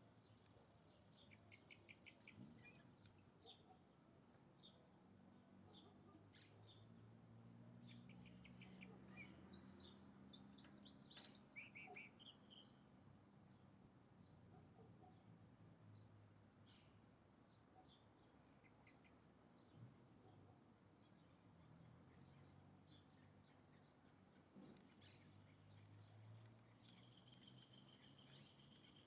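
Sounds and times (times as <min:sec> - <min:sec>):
faint bird chirps and trills: 0:00.0 - 0:04.0, 0:04.6 - 0:07.0, 0:07.8 - 0:12.9, 0:15.9 - 0:29.0.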